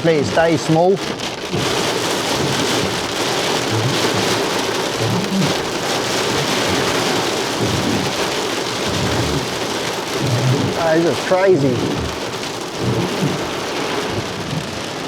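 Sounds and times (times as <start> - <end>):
hail and heavy rain pelting: 0.0 - 15.0.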